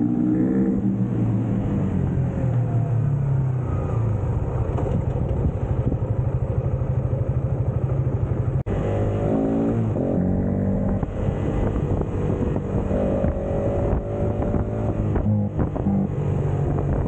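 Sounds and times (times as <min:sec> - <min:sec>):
motorcycle engine: 0:00.0 - 0:17.0.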